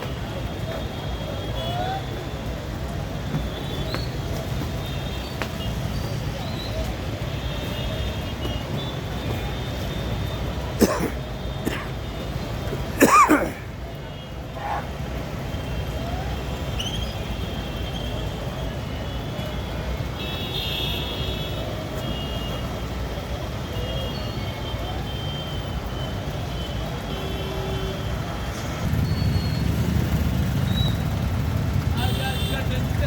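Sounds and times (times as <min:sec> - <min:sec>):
low rumble of engines: 0:00.0 - 0:33.0.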